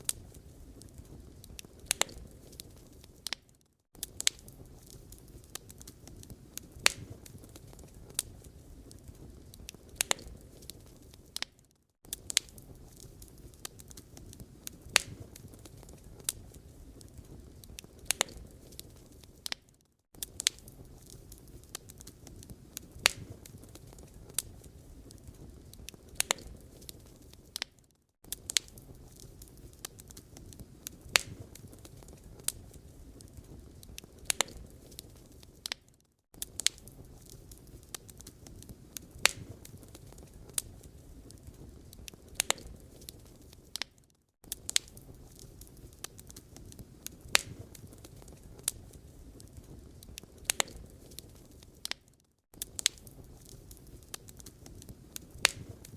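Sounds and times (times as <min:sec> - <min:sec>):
fire rumbling: 0:00.0 - 0:03.4, 0:04.0 - 0:19.6, 0:20.2 - 0:35.8, 0:36.4 - 0:52.0, 0:52.6 - 0:55.9
fire crackling and popping: 0:00.0 - 0:55.9.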